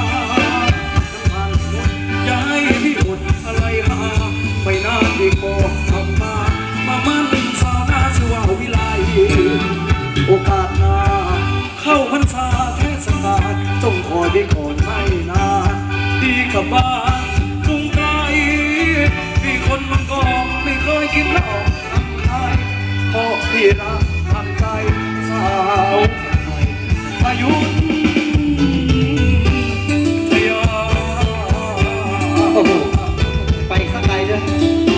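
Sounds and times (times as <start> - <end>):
live band playing dance music: 0.0 - 34.9
person singing: 0.0 - 34.9
steady drum beat: 0.0 - 34.9.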